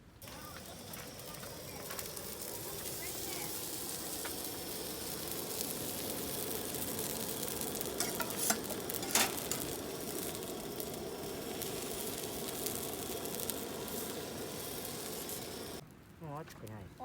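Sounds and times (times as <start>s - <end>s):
food sizzling in a pan: 0.0s - 15.8s.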